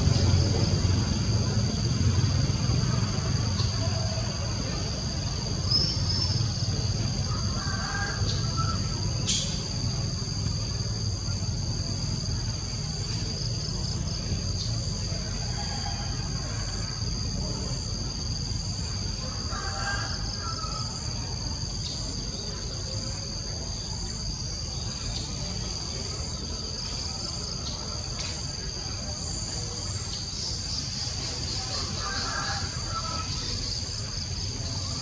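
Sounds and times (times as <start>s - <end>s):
low background rumble: 0.0s - 32.0s
insects droning: 0.0s - 35.0s.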